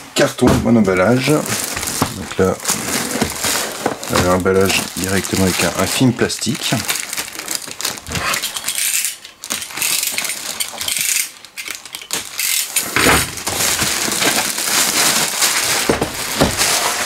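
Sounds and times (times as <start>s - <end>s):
plastic film crinkling: 0.7s - 17.0s.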